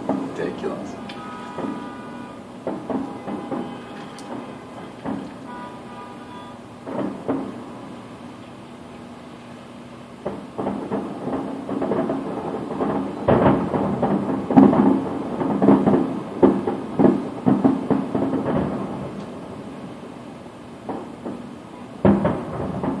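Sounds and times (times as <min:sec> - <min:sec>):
fireworks booming: 0:00.0 - 0:23.0.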